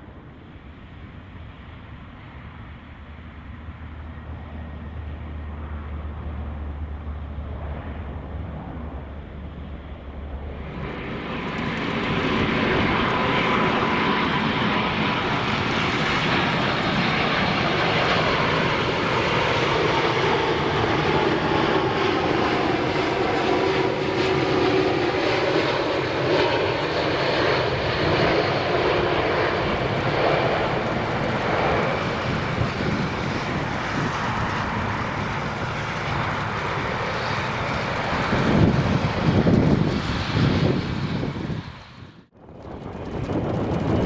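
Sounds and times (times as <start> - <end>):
jet engines droning: 0.0 - 44.0.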